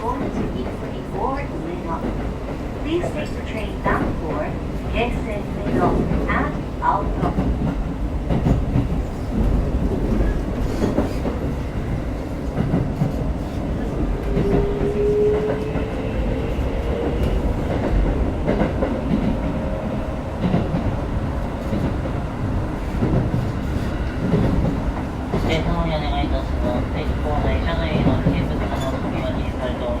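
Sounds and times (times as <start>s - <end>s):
train wheel and rail rumble: 0.0s - 30.0s.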